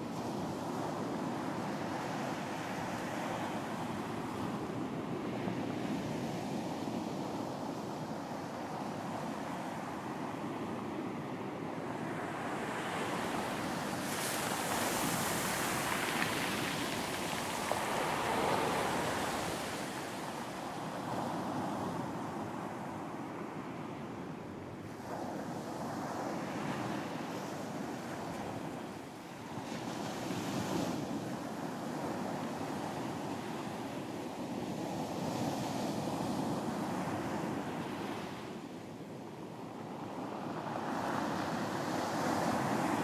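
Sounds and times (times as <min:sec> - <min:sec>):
sea waves washing on beach: 0:00.0 - 0:23.8, 0:24.8 - 0:43.0.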